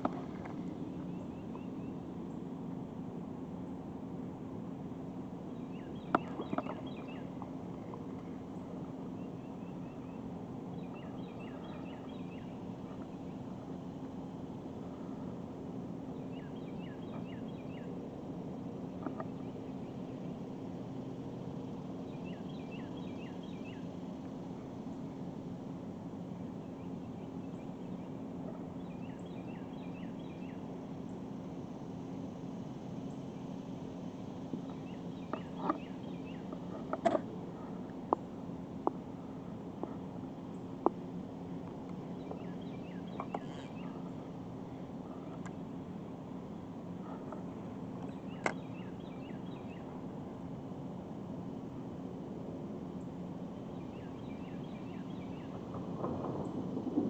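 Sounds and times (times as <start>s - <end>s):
birds chirping: 0.0s - 51.8s, 52.9s - 56.6s
low background hum: 0.0s - 57.0s
outdoor noise: 0.0s - 57.0s.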